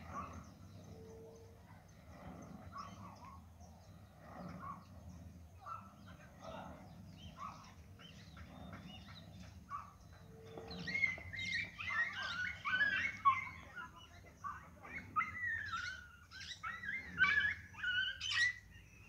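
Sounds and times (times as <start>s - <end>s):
wild birds chirping: 0.0s - 19.0s.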